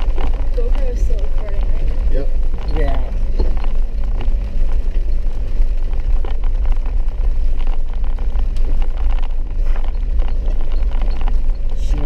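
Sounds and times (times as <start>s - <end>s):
vehicle driving on dirt road: 0.0s - 12.0s.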